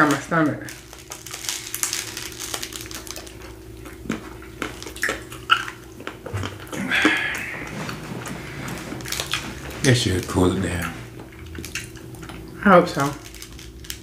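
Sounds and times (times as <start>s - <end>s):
biting and chewing ice cream bar: 0.0s - 14.0s
faint steady hum: 0.0s - 14.0s.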